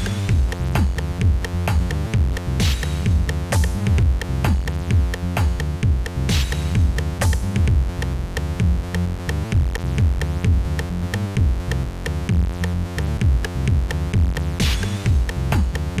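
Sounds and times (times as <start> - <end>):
electronic music with drum-machine beat: 0.0 - 16.0.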